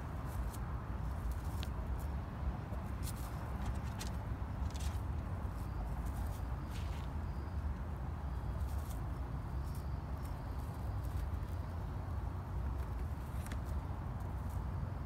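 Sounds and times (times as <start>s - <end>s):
faint rustles and ticks: 0.0s - 14.7s.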